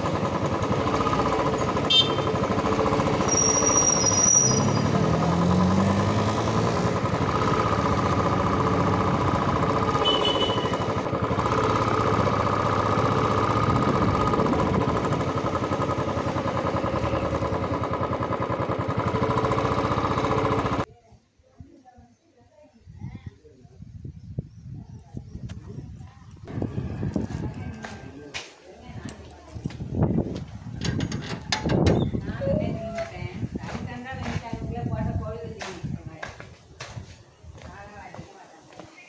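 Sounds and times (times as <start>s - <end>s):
motorcycle engine running: 0.0s - 20.9s, 25.4s - 28.3s, 28.9s - 37.9s.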